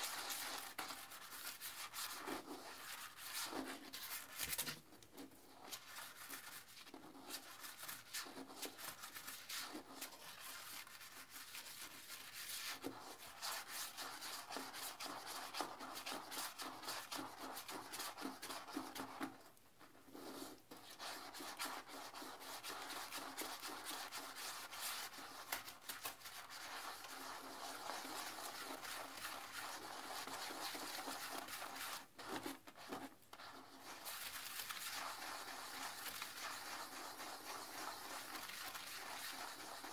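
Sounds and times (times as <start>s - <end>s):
toilet brush scrubbing bowl: 0.0s - 39.9s.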